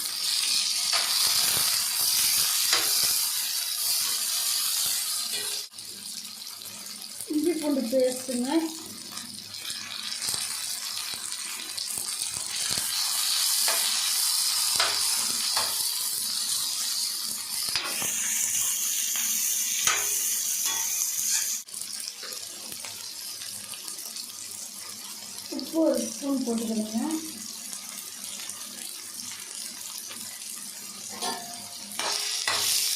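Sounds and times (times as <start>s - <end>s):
vegetables sizzling in hot oil: 0.0s - 32.9s.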